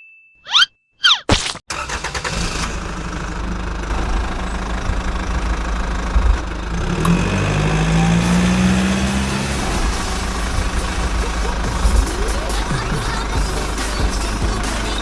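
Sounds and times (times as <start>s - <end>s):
truck engine rumbling: 1.7s - 15.0s.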